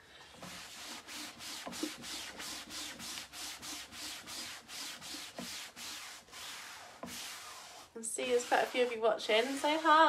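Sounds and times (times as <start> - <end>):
cloth rubbing painted wood: 0.3 - 10.0.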